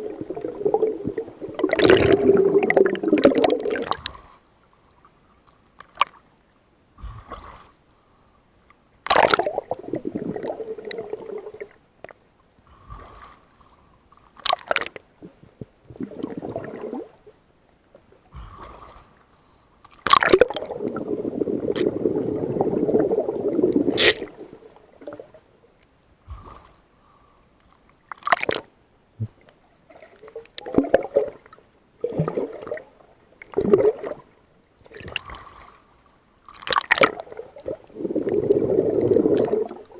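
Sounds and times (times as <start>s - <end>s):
water sloshing and gurgling: 0.0s - 6.3s, 7.0s - 7.9s, 9.0s - 26.9s, 28.0s - 39.9s.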